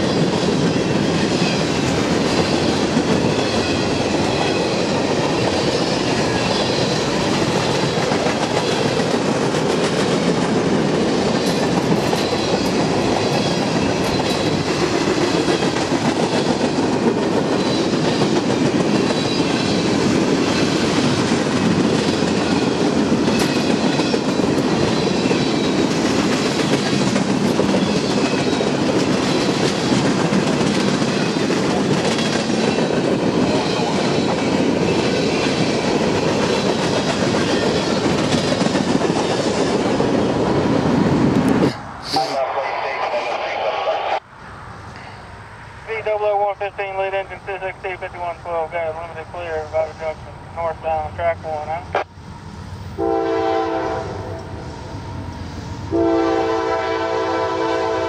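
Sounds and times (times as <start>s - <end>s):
train wheels rumbling on rail: 0.0s - 42.4s, 44.2s - 58.0s.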